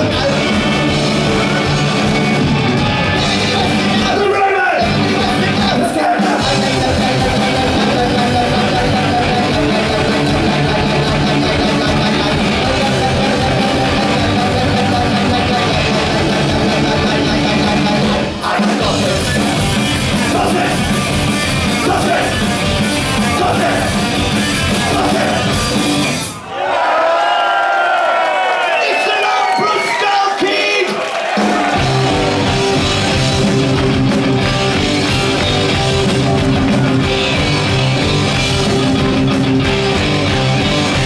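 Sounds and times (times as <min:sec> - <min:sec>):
electric guitar: 0:00.0 - 0:04.2, 0:04.8 - 0:26.4, 0:31.4 - 0:41.0
bass guitar: 0:00.0 - 0:26.4, 0:31.6 - 0:41.0
drums: 0:00.0 - 0:27.3, 0:28.7 - 0:41.0.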